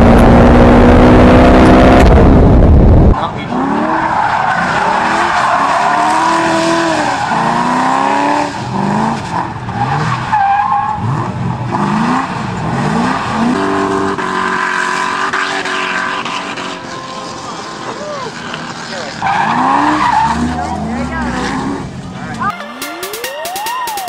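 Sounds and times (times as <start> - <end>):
car engine revving: 0.0 - 22.4.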